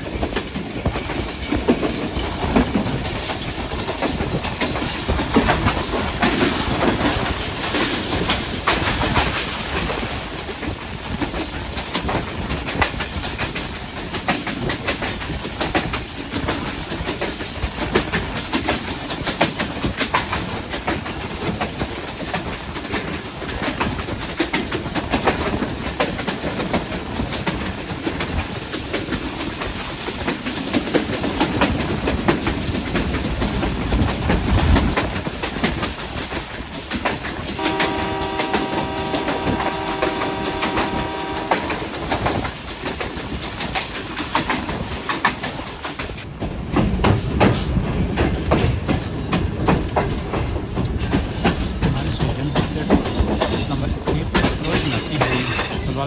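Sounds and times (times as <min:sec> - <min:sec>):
train coach rumble: 0:00.0 - 0:56.0
train wheels clacking over rail joints: 0:00.0 - 0:56.0.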